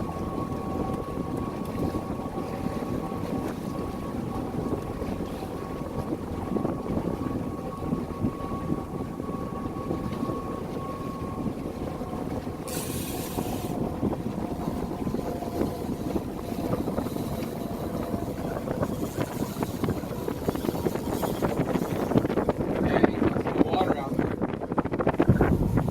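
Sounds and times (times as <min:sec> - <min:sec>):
boat motor running: 0:00.0 - 0:25.9
wind buffeting microphone: 0:00.0 - 0:25.9.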